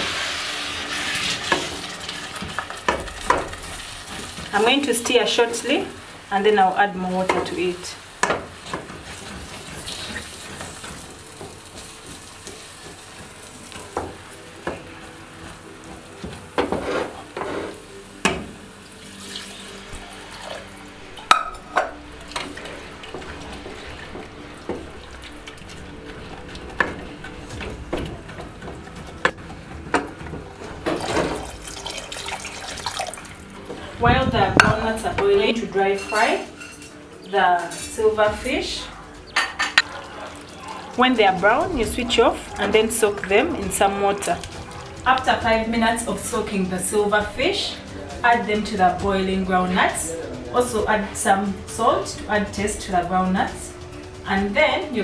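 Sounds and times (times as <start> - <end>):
wet stirring in a saucepan: 7.1 - 34.0, 35.4 - 54.7.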